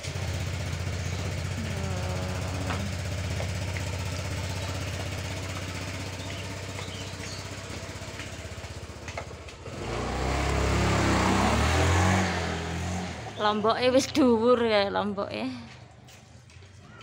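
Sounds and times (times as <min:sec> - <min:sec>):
louder rough engine sound: 0:00.0 - 0:14.8
vehicle engine idling: 0:00.0 - 0:14.8.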